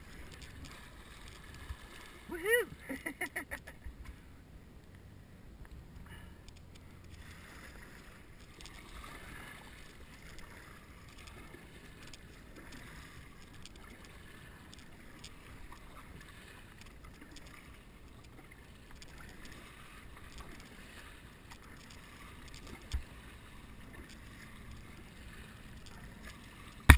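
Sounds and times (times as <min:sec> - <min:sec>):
water washing along hull: 0:00.0 - 0:04.2, 0:06.3 - 0:26.9
paddle splashes and drips: 0:00.0 - 0:04.3, 0:06.0 - 0:26.9.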